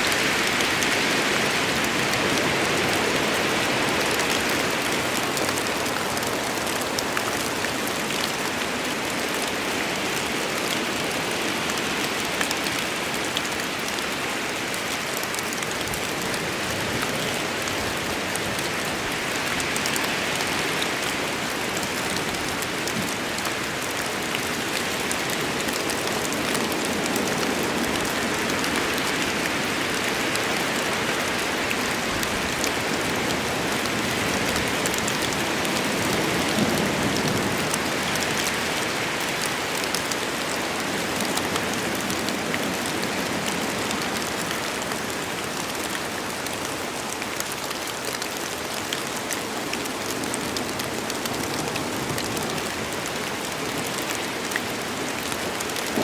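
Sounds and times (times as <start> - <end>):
heavy rain on forest: 0.0 - 56.0.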